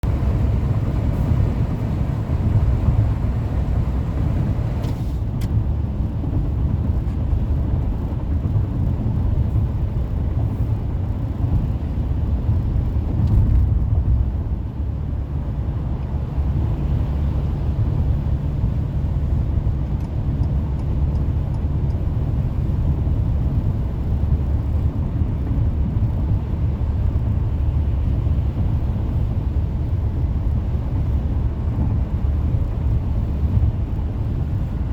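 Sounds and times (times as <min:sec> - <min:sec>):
car road noise rumble: 0:00.0 - 0:34.9.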